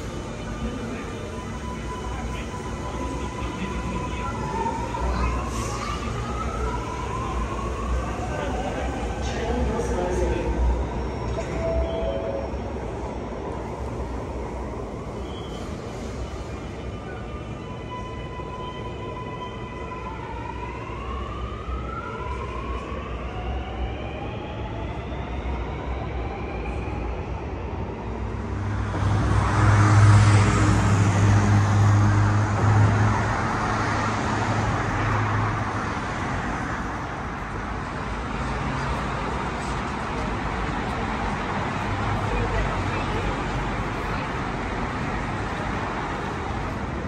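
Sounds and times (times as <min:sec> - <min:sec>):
street traffic rush: 0:00.0 - 0:47.0.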